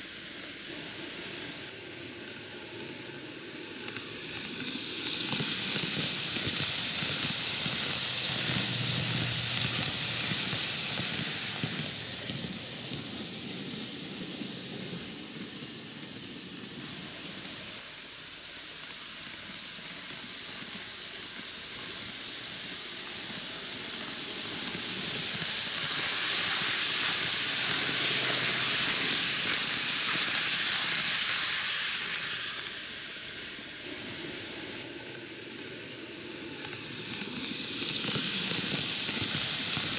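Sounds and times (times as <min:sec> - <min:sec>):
model train wheels rattling: 0:02.6 - 0:17.7, 0:18.6 - 0:33.5, 0:34.1 - 0:39.9.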